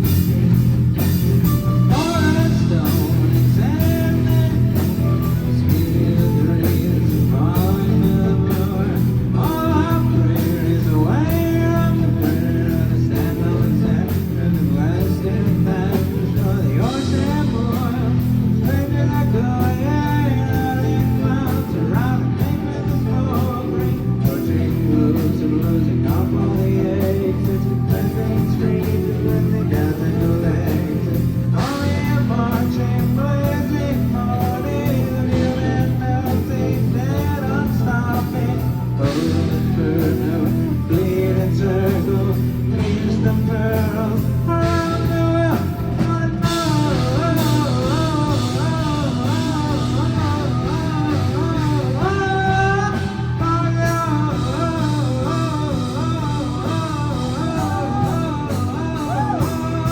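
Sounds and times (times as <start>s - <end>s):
live rock band playing: 0.0s - 59.9s
wavering lead melody: 0.0s - 59.9s.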